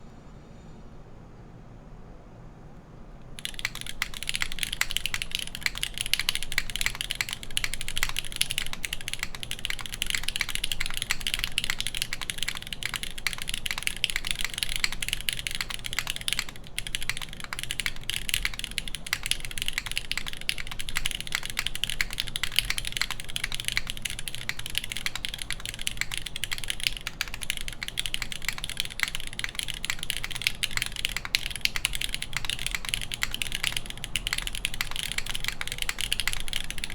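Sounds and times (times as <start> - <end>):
mechanical keyboard typing clacks: 3.3 - 36.9.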